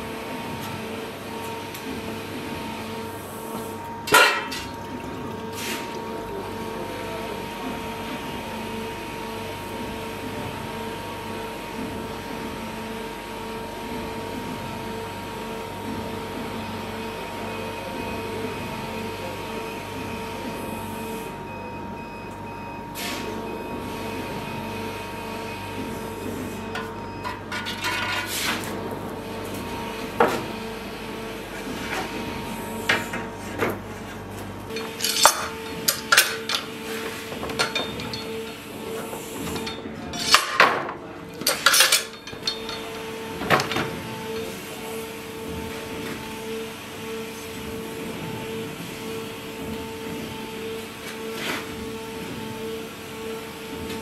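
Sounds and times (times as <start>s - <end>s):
workshop machinery hum: 0.0s - 54.0s.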